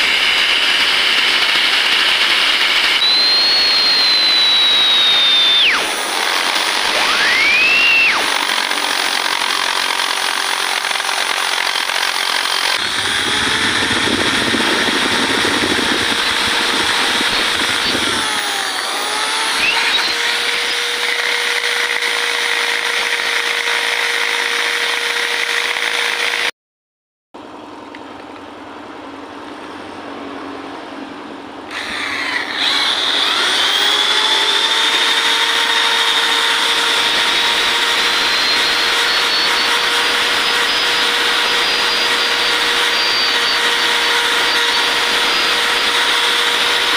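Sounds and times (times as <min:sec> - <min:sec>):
electric drill motor whine: 0:00.0 - 0:26.5, 0:31.7 - 0:46.9.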